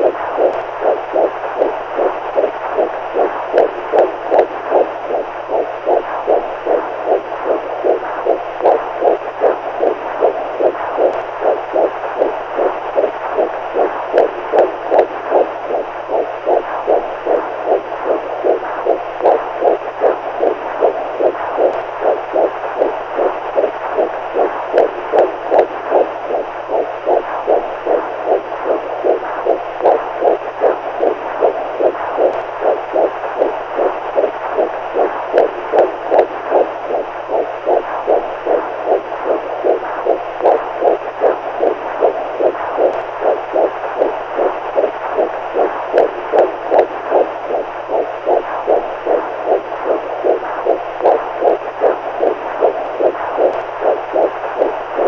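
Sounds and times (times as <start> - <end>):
heartbeat: 0.0 - 55.0
low hum: 0.0 - 55.0.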